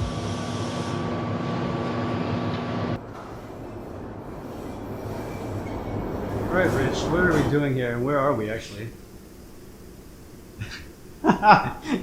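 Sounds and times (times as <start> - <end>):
quiet steady rush: 0.0 - 12.0
rushing machine noise with hum: 0.0 - 12.0.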